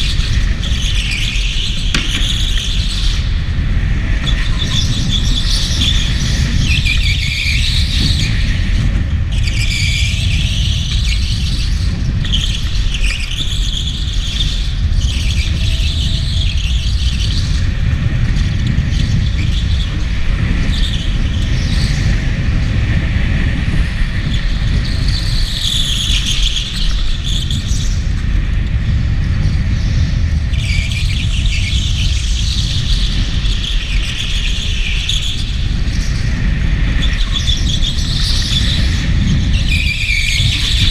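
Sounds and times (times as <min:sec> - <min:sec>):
go-kart running rumble: 0:00.0 - 0:40.9.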